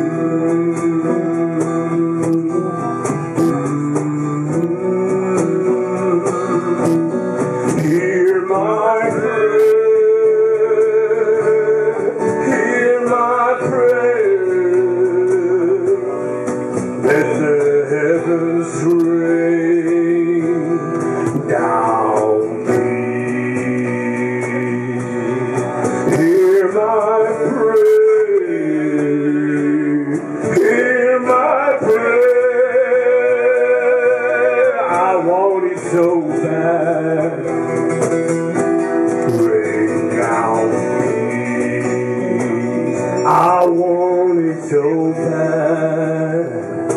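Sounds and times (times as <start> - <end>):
acoustic guitars strumming: 0.0 - 46.9.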